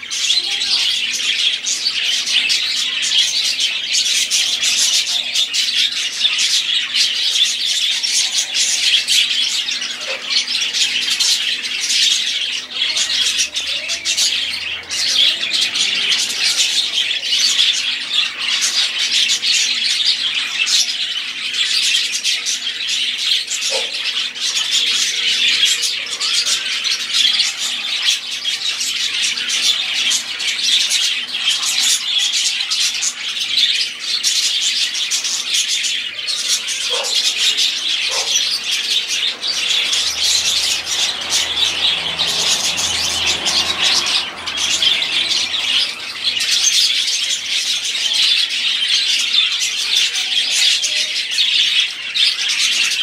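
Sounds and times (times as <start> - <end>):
budgerigars chattering and chirping: 0.0 - 53.0.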